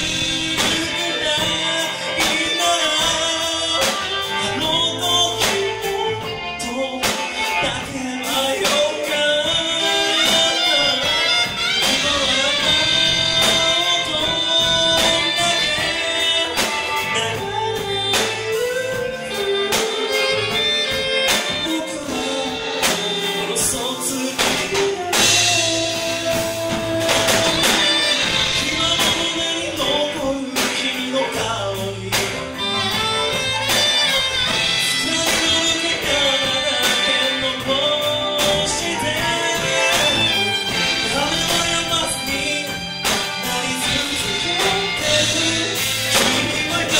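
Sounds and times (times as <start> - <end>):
bass guitar: 0.0 - 46.9
drums: 0.0 - 46.9
electric guitar: 0.0 - 46.9
man singing into microphone: 0.0 - 46.9
saxophone: 0.0 - 46.9.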